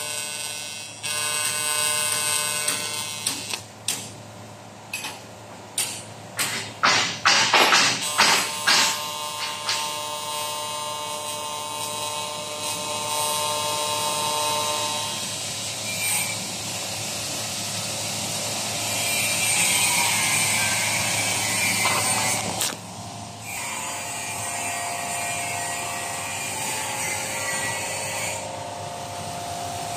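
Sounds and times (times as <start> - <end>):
machinery hum with steady tones: 0.0 - 29.9.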